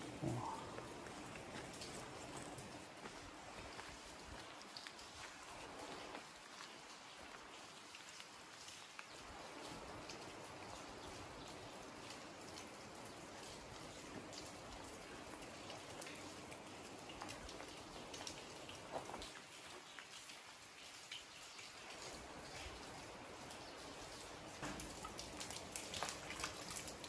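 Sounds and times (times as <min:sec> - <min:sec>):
light rain hissing: 0:00.0 - 0:27.0
raindrops ticking: 0:00.0 - 0:27.0.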